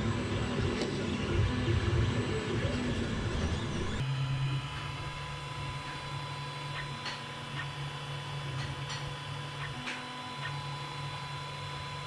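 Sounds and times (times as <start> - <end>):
low motor tones: 0.0 - 12.0
printer humming: 0.0 - 12.0.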